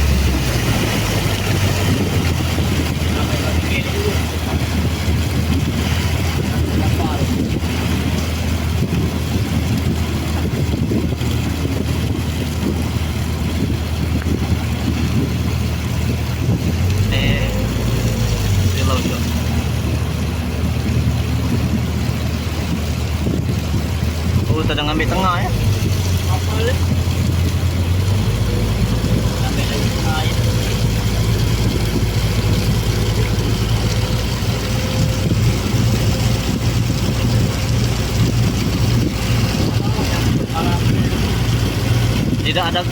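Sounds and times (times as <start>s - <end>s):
boat engine drone: 0.0s - 42.9s
wind and water rushing: 0.0s - 42.9s.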